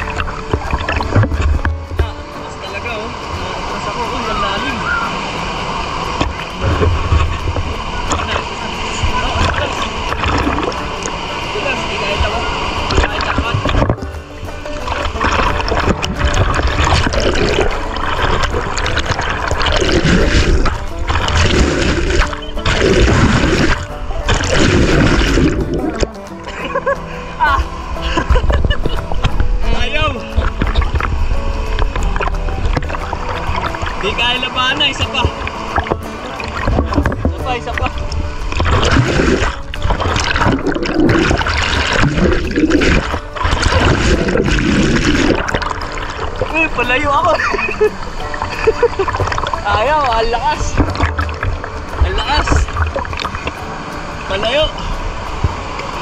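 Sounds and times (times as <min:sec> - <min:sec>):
water rushing over rocks: 0:00.0 - 0:56.0
water splashing on microphone: 0:00.0 - 0:56.0.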